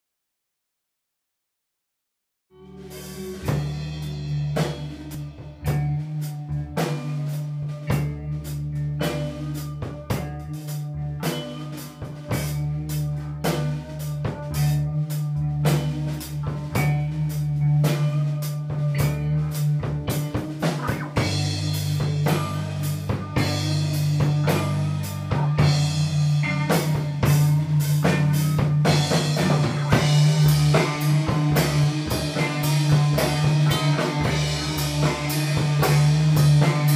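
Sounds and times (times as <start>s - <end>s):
sustained bass notes: 2.5s - 36.9s
drum kit beat: 2.6s - 36.9s.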